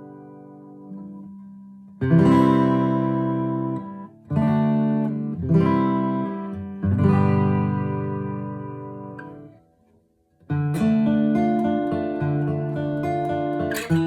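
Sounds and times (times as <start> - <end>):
acoustic guitar chords ringing: 0.0 - 9.8, 10.4 - 14.0.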